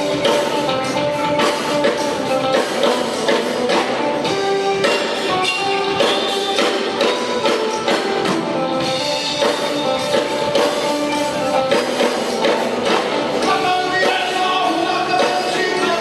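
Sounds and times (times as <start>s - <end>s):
live band music: 0.0s - 16.0s
plucked guitar: 0.0s - 16.0s.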